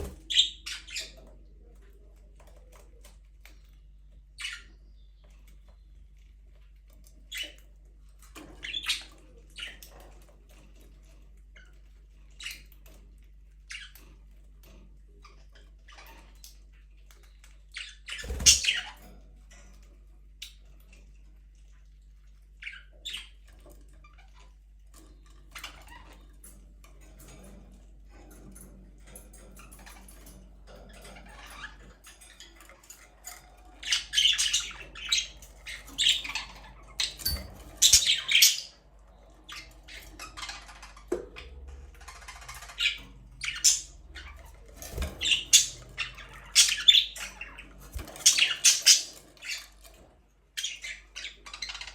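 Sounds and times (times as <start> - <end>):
budgerigars chirping and squawking: 0.0 - 19.8, 22.5 - 51.9.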